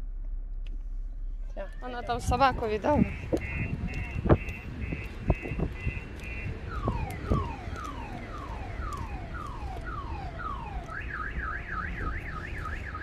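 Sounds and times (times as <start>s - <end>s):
car alarm: 1.6s - 13.0s.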